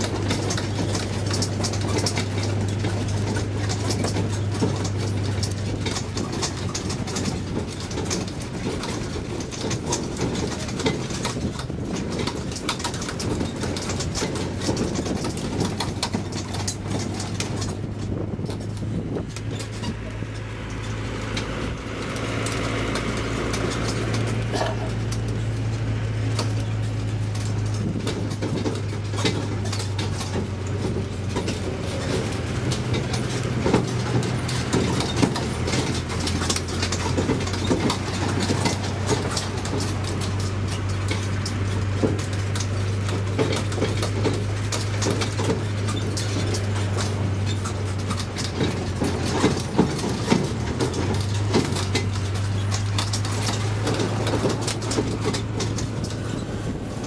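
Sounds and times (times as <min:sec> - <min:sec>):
carriages rattling and knocking: 0:00.0 - 0:57.0
mini train engine drone: 0:00.0 - 0:57.0.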